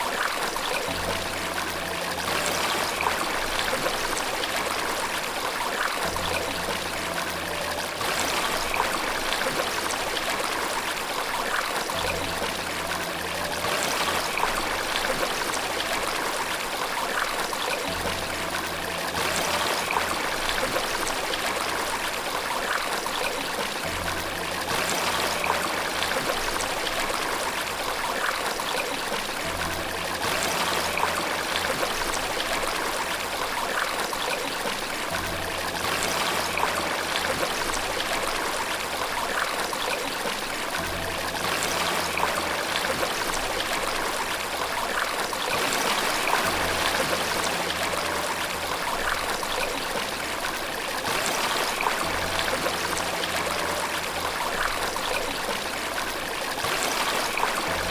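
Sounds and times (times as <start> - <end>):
water flowing: 0.0 - 57.9.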